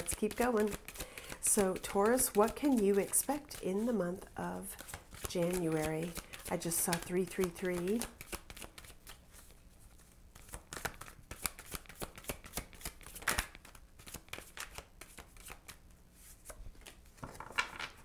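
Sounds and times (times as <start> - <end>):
cards being shuffled: 0.0 - 18.0.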